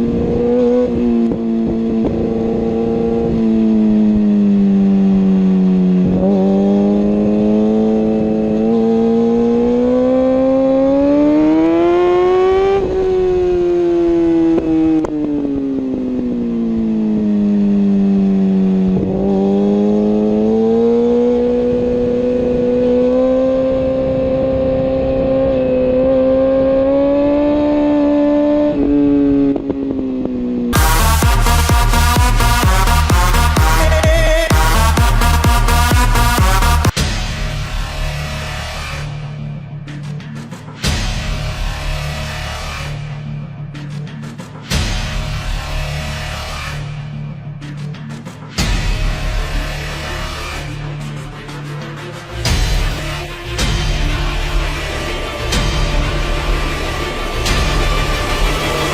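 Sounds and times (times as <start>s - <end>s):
motorbike engine revving high: 0.0s - 40.0s, 48.6s - 58.9s.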